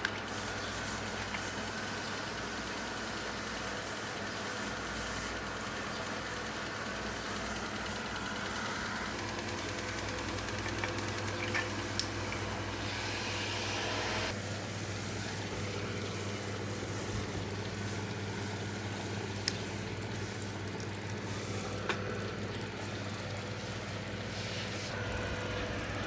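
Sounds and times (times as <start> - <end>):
electric fan humming: 0.0 - 26.0.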